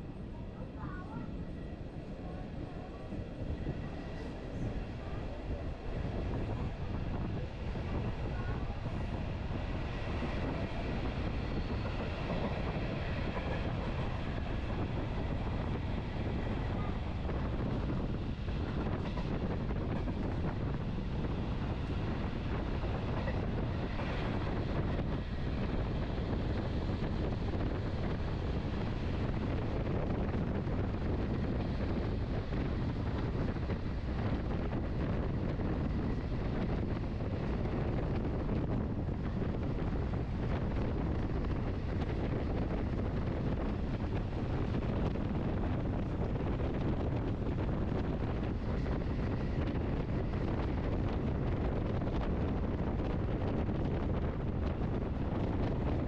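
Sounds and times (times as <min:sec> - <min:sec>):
train wheels rumbling on track: 0:00.0 - 0:56.0
wind rush over microphone: 0:00.0 - 0:56.0.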